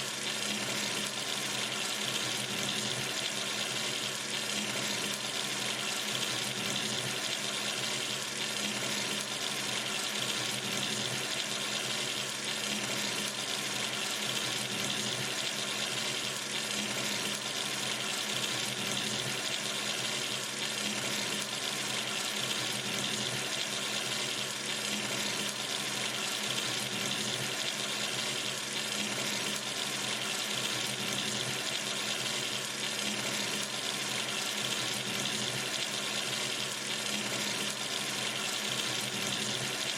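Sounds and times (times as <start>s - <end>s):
water running from sink tap: 0.0s - 39.9s.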